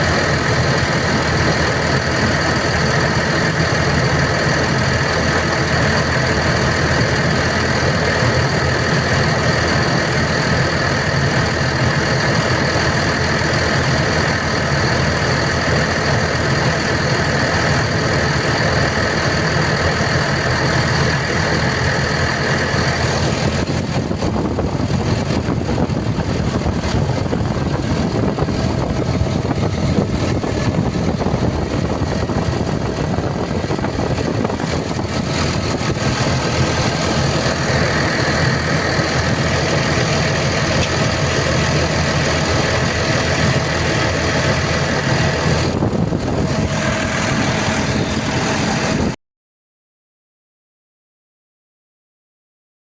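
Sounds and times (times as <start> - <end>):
excavator diesel engine idling: 0.0 - 49.2
high whine: 0.0 - 49.2.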